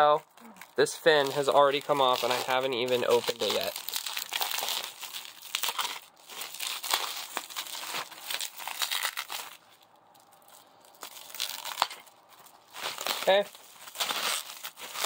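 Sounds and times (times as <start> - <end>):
bubble wrap crackling: 0.0 - 15.0.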